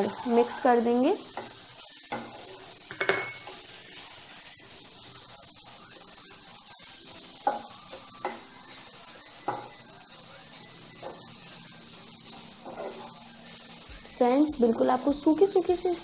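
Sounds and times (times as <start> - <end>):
soft sizzle: 0.0 - 16.0
wooden spatula stirring in pan: 0.0 - 16.0.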